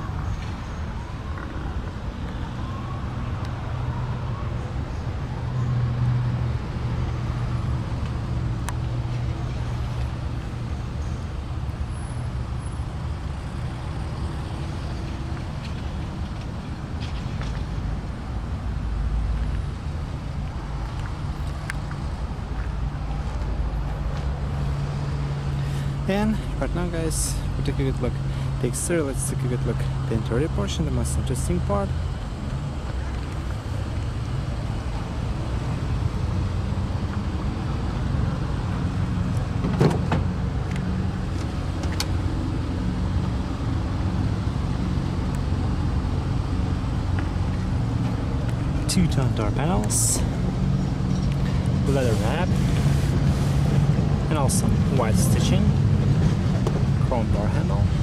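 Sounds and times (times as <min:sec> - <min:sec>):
car engine rumble: 0:00.0 - 0:58.0.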